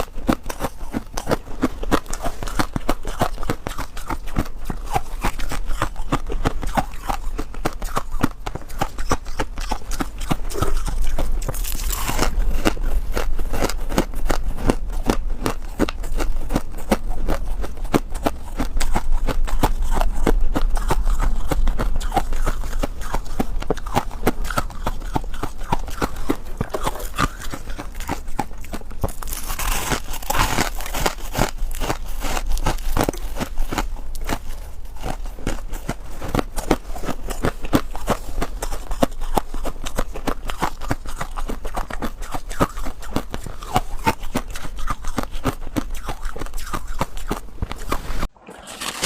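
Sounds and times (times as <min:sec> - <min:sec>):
frost being chewed crunching: 0:00.0 - 0:49.0.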